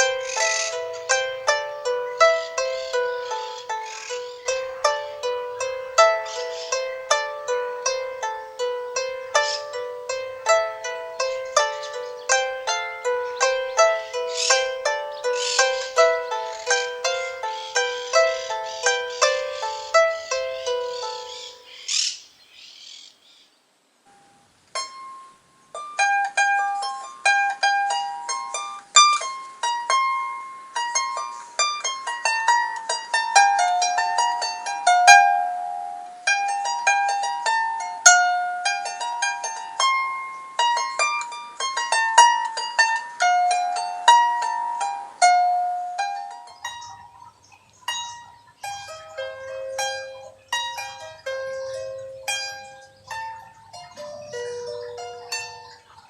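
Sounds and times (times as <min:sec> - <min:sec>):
plucked lyre melody: 0:00.0 - 0:22.9, 0:24.1 - 0:56.0.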